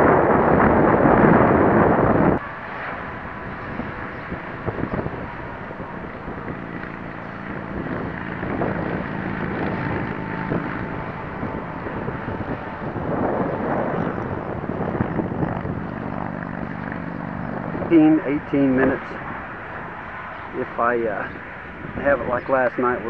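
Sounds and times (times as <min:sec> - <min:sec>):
electric motor and propeller hum: 0:00.0 - 0:23.0
wind noise on microphone: 0:00.0 - 0:23.0.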